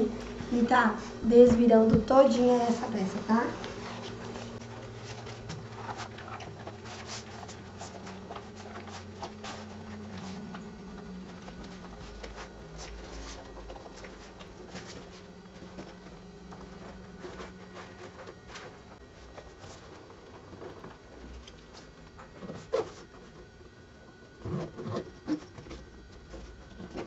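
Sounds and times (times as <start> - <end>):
rustling and crinkling material: 0.0 - 27.0.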